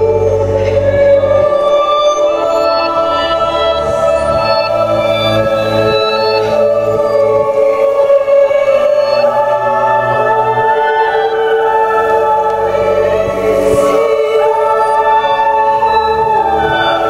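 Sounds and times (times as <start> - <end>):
choir-like sustained chord: 0.0 - 17.0
woman singing long held notes: 0.0 - 17.0.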